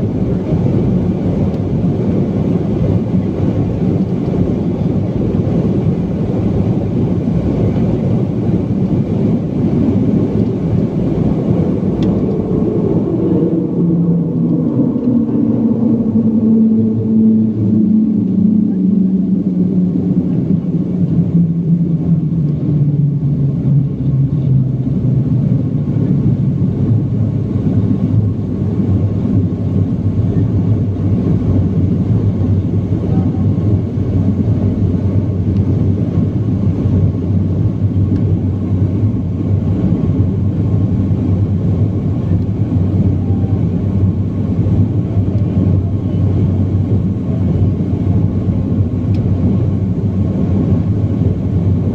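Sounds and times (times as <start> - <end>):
airliner cabin engine drone: 0.0 - 51.9.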